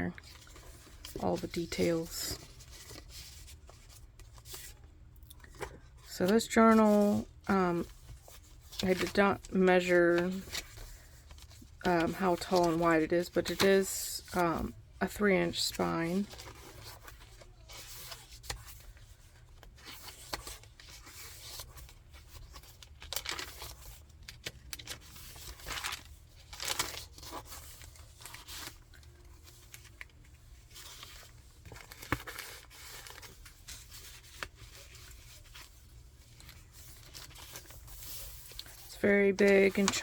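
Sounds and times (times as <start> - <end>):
thick paper pages flipping: 0.0 - 40.0.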